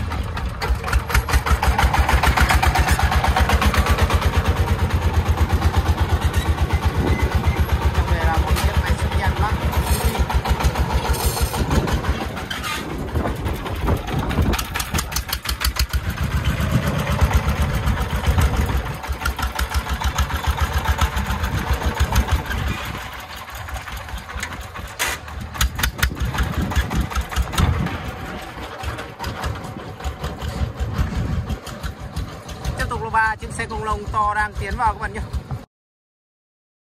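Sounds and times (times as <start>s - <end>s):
diesel engine running under load: 0.0s - 35.7s.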